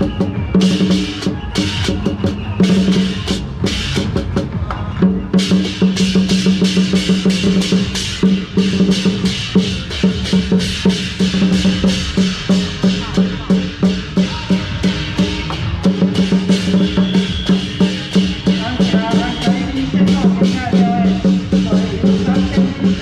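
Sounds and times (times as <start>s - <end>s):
cymbals clashing: 0.0s - 23.0s
large drum beating: 0.0s - 23.0s.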